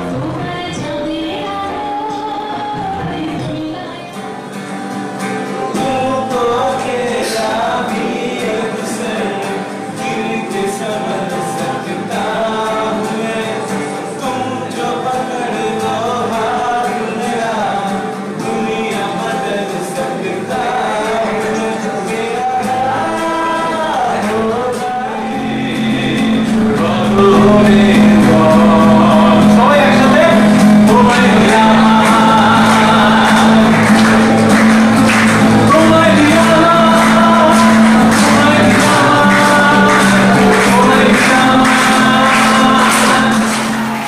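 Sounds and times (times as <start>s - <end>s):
strummed acoustic guitar: 0.0s - 44.0s
man singing: 5.2s - 44.0s.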